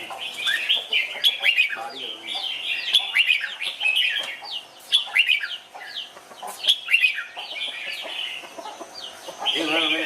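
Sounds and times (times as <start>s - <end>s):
birds calling and singing: 0.0s - 10.0s.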